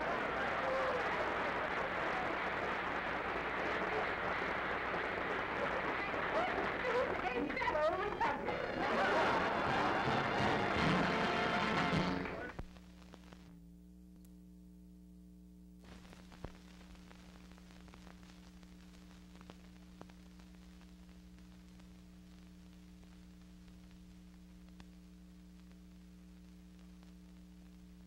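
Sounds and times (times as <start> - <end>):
film crackle and clicks: 0.0 - 8.9, 12.2 - 14.4, 15.8 - 28.0
faint electrical hum: 0.0 - 28.0.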